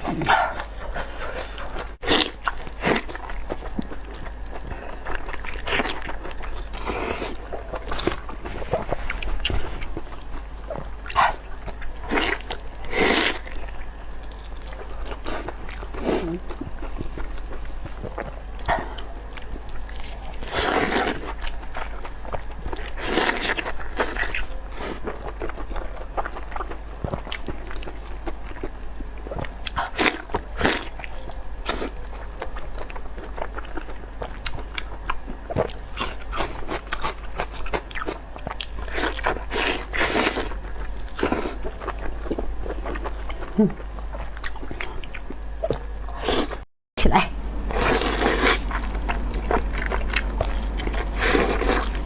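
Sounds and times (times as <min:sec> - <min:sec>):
person chewing wetly: 0:00.1 - 0:46.6, 0:47.7 - 0:52.0.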